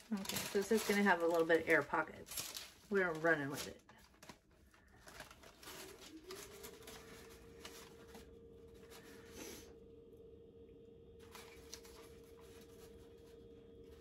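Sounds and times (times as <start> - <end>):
parchment paper crinkling: 0.0 - 9.4, 11.2 - 14.0
faint steady hum: 0.0 - 14.0.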